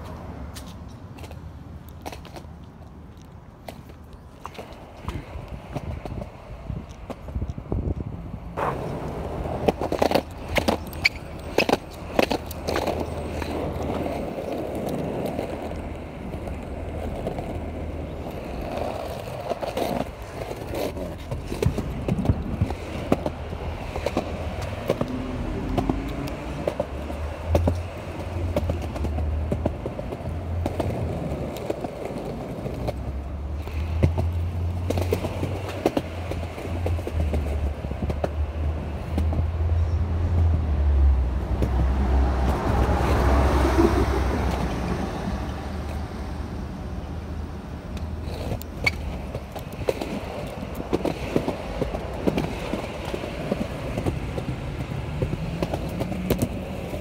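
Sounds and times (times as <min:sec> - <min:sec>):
skateboard clicks and knocks: 0:00.0 - 0:40.7, 0:41.3 - 0:57.0
skateboard wheels rolling: 0:00.0 - 0:57.0.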